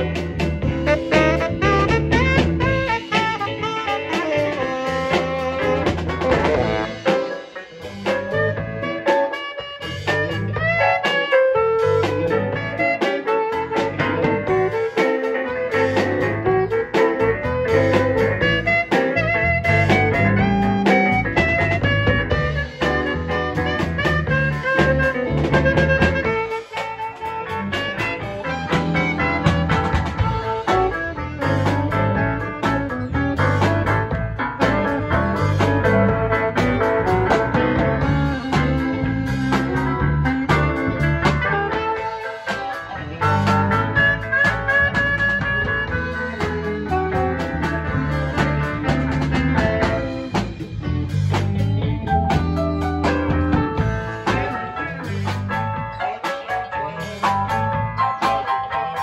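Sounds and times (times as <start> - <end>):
saxophone melody: 0.0 - 56.0
drum kit: 0.0 - 59.0
electric keyboard: 0.0 - 59.0
low bass notes: 0.0 - 59.0.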